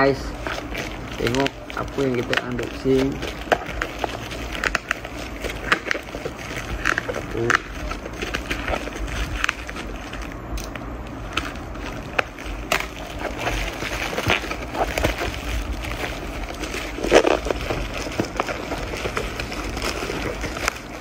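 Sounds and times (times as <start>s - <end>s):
plastic bag tearing and crinkling: 0.0s - 21.0s.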